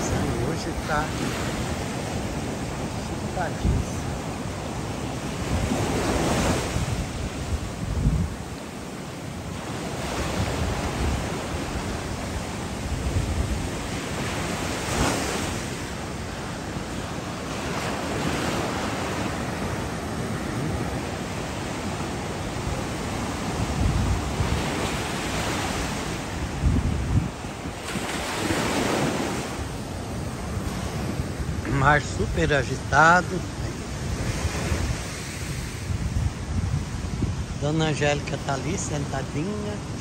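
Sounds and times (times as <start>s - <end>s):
waves breaking over rocks: 0.0s - 40.0s.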